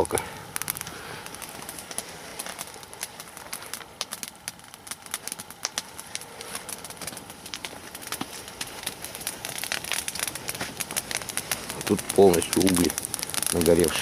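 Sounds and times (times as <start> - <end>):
log fire crackling: 0.0 - 14.0.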